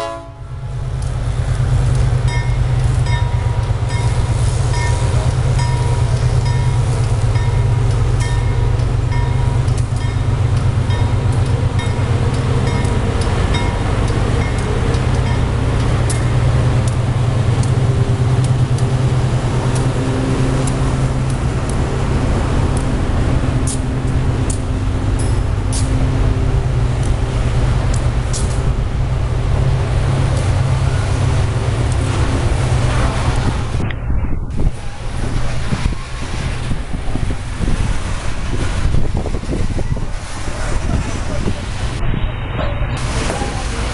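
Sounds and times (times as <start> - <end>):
diesel locomotives droning: 0.0 - 43.9
wagons rumbling on rails: 0.0 - 43.9
wind buffeting microphone: 0.7 - 43.9.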